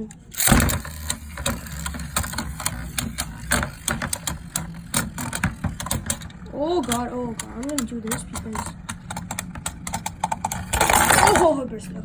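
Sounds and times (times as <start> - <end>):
spinning tops whirring: 0.3 - 11.6
tops clicking against walls: 0.4 - 11.6.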